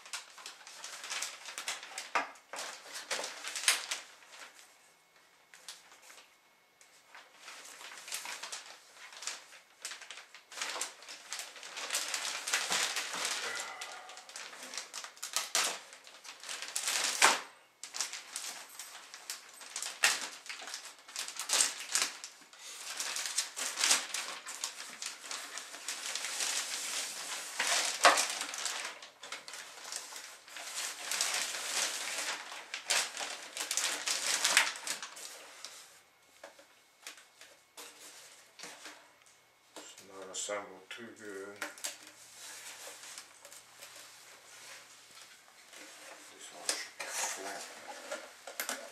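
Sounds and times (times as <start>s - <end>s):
plastic bag crinkling: 0.0s - 4.7s, 7.0s - 48.9s.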